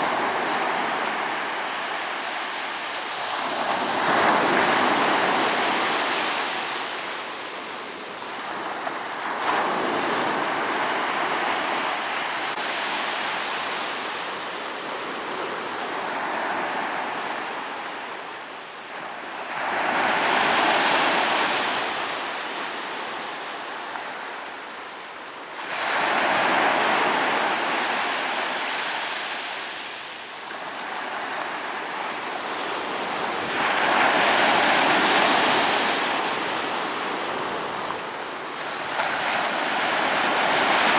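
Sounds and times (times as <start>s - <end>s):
ocean waves breaking on shore: 0.0s - 24.8s, 25.4s - 40.9s.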